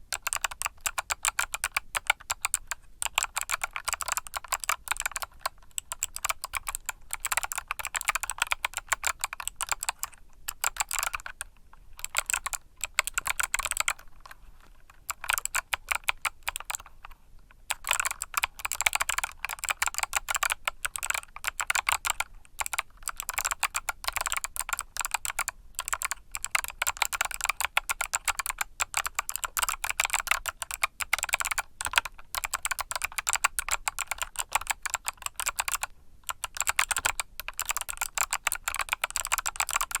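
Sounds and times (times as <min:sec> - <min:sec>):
typing on mechanical keyboard: 0:00.1 - 0:14.1, 0:15.1 - 0:16.9, 0:17.7 - 0:40.0.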